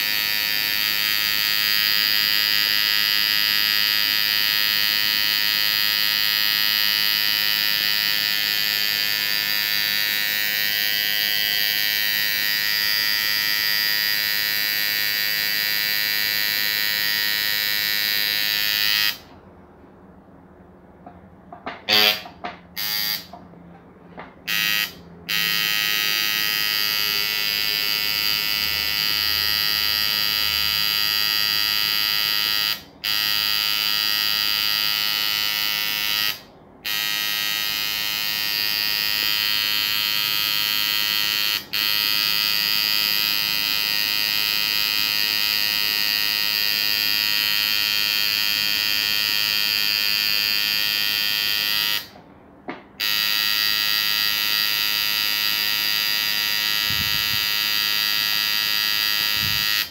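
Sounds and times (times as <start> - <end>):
tattoo machine buzzing: 0.0 - 19.3, 21.7 - 23.4, 24.4 - 52.2, 53.0 - 59.9.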